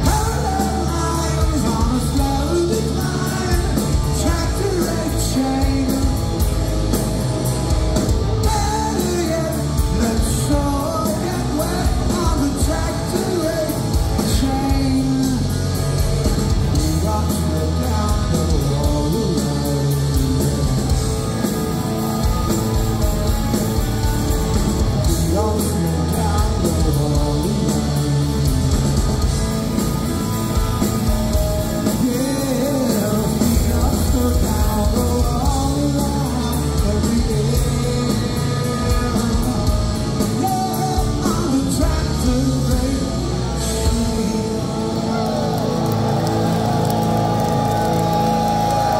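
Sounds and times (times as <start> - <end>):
lead singer singing: 0.0 - 24.1, 24.8 - 45.8
live rock band playing: 0.0 - 48.9.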